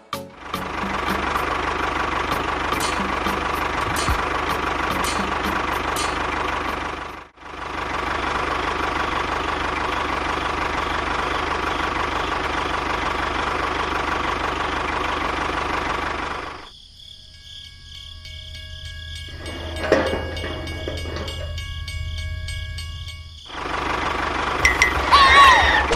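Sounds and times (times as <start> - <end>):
small engine whining: 0.0 - 25.9
faint steady tones: 0.6 - 25.9.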